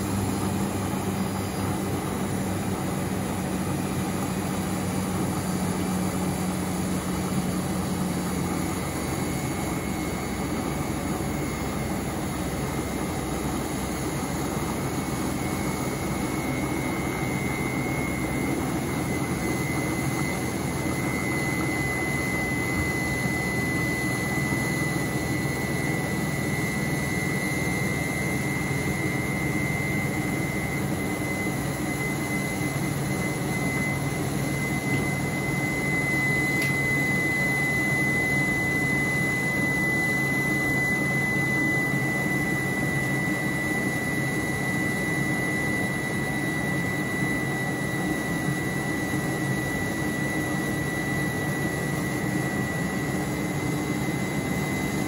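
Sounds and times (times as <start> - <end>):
washing machine motor hum: 0.0 - 55.0
water churning in washing machine: 0.0 - 55.0.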